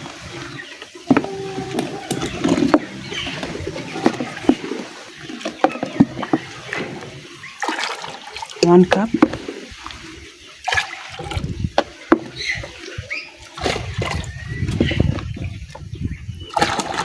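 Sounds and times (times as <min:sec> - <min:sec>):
water splashing in a container: 0:00.0 - 0:17.0.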